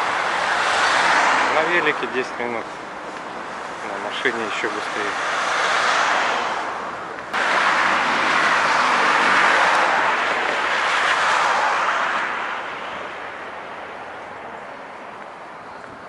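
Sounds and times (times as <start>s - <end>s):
cars passing close by: 0.0s - 16.0s.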